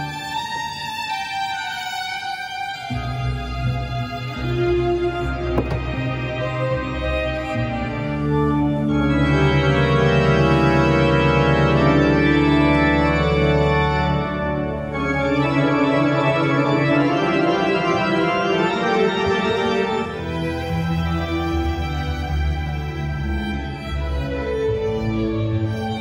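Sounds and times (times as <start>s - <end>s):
pipe organ playing chords: 2.8s - 26.0s.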